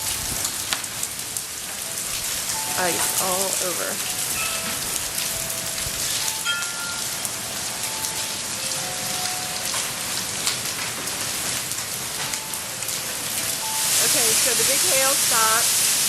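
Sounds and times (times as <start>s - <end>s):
hailstones ticking on surfaces: 0.0s - 16.0s
heavy rain hissing: 0.0s - 16.0s.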